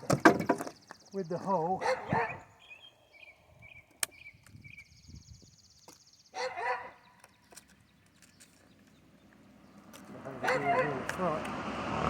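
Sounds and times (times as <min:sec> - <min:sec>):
faint birds chirping: 0:00.0 - 0:11.7.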